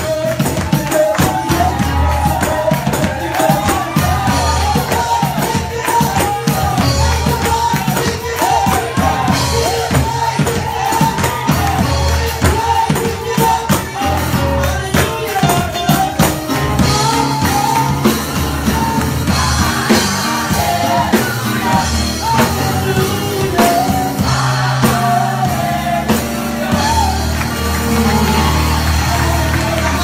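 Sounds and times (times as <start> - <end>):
drum kit beat: 0.0 - 30.0
piano: 0.0 - 30.0.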